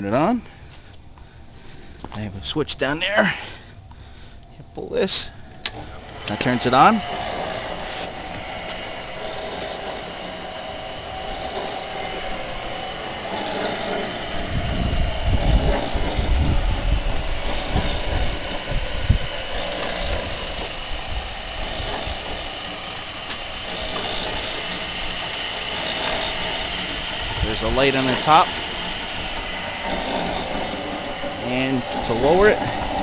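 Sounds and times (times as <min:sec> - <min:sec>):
band saw motor humming: 0:05.1 - 0:33.0.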